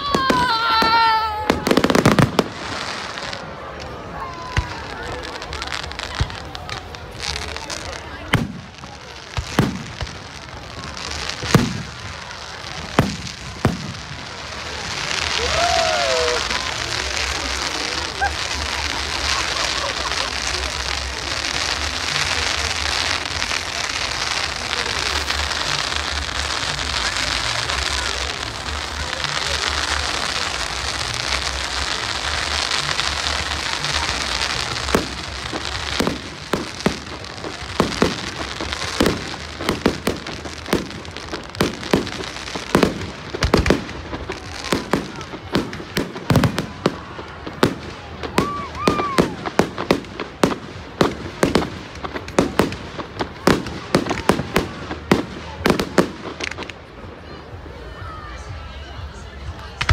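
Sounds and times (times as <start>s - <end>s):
firework bangs: 0.0s - 56.9s
fireworks crackling hiss: 0.0s - 59.9s.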